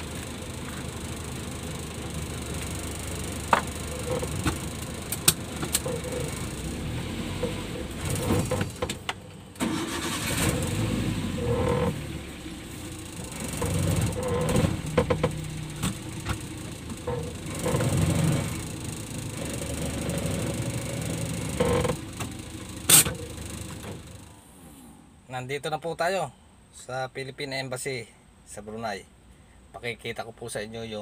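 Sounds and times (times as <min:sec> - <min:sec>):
car engine running: 0:00.0 - 0:24.8.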